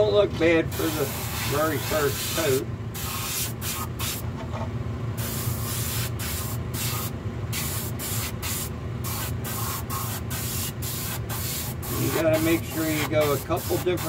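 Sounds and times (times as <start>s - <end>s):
compressor low hum: 0.0s - 14.0s
paint spray gun hissing: 0.7s - 4.2s, 5.2s - 14.0s.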